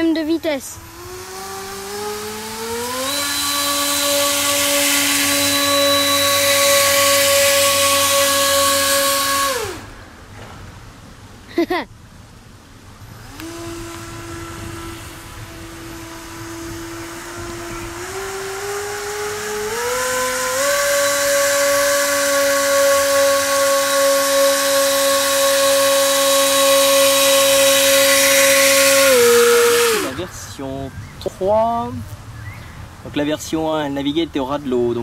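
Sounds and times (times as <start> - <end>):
model boat motor whining: 0.0 - 10.4, 13.0 - 33.0.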